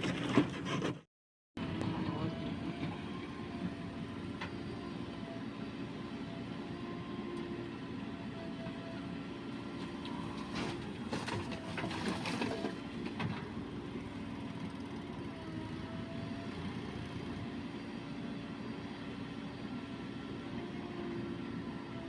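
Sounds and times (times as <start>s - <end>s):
diesel engine running: 1.6s - 22.0s.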